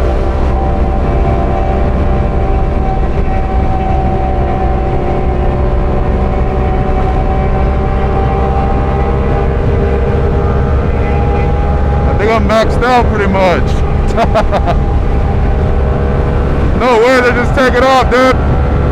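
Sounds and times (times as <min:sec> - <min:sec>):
wind rush: 0:00.0 - 0:18.9.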